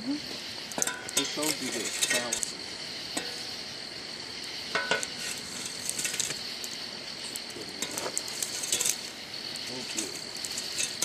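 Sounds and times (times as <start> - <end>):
fire crackling: 0.0 - 11.0
night insects droning: 0.0 - 11.0
metal shovel scraping coals: 0.3 - 11.0.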